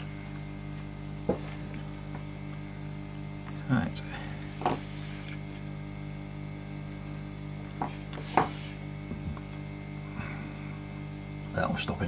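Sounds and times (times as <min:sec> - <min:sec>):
heat gun fan humming: 0:00.0 - 0:12.0.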